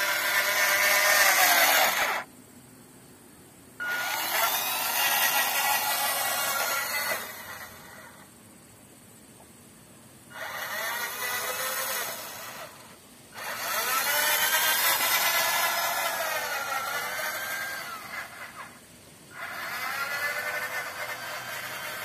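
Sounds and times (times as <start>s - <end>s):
electric motor whining: 0.0s - 2.3s, 3.8s - 8.3s, 10.3s - 22.0s.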